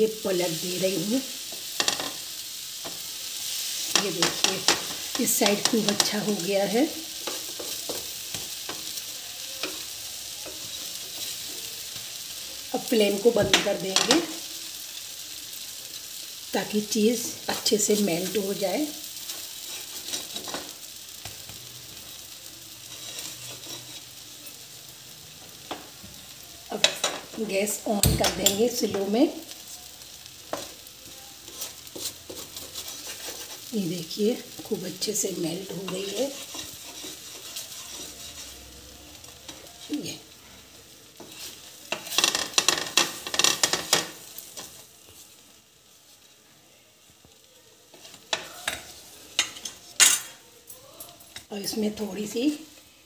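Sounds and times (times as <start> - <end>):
butter sizzling in frying pan: 0.0 - 53.0.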